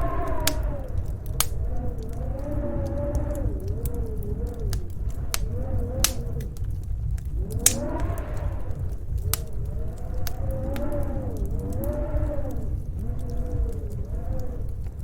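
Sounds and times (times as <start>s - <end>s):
wind howling: 0.0s - 15.0s
wood fire crackling: 0.0s - 15.0s.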